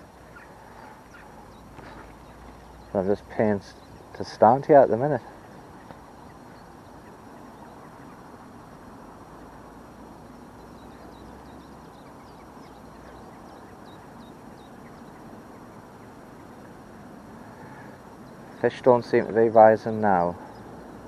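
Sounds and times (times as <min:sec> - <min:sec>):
outdoor background rush: 0:00.0 - 0:21.0
small birds chirping: 0:00.0 - 0:21.0.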